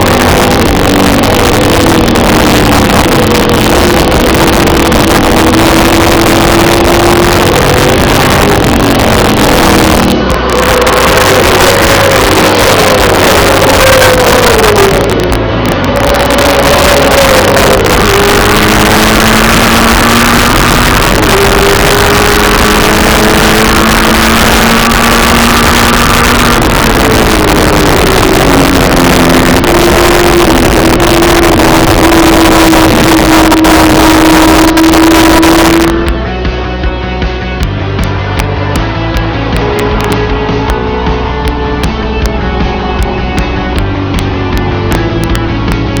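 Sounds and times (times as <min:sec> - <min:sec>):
dense rush of noise: 0:00.0 - 0:46.0
racing car engine at speed: 0:00.0 - 0:46.0.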